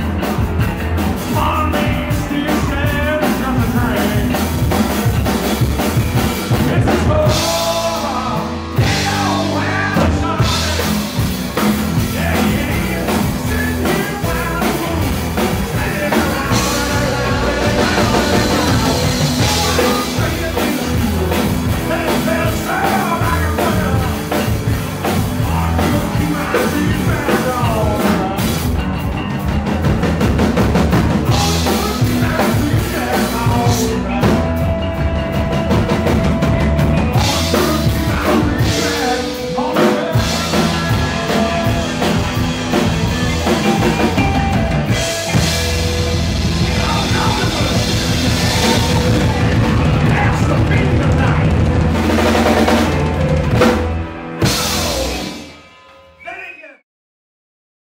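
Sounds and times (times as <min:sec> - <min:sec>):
electric bass: 0:00.0 - 0:55.7
electric guitars: 0:00.0 - 0:56.2
drum kit: 0:00.0 - 0:56.4.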